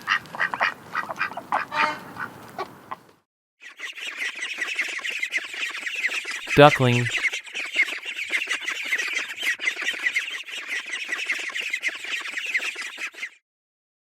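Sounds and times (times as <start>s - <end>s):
ducklings peeping: 0.0s - 3.0s, 3.8s - 13.2s.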